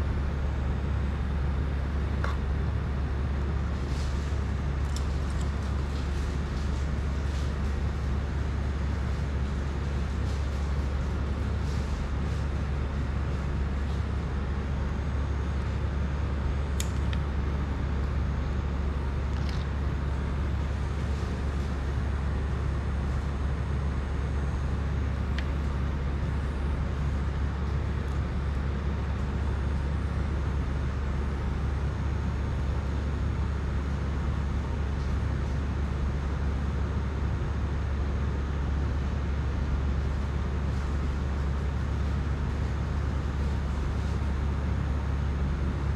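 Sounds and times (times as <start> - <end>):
low background rumble: 0.0 - 45.9.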